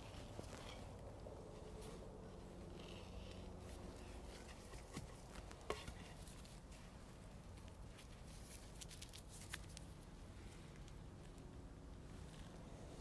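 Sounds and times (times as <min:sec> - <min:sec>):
soft taps and rustles in soil: 0:00.0 - 0:12.8.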